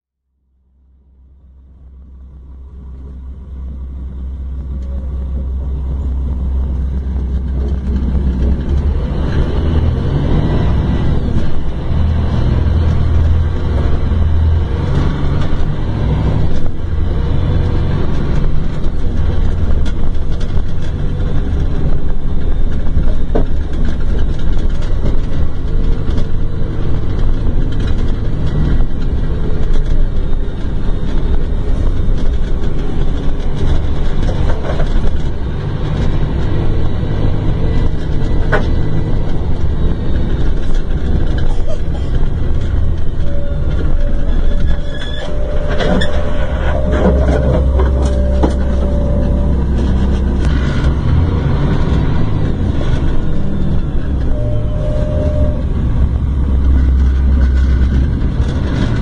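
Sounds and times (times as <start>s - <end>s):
bus engine rumbling: 0.4s - 59.0s.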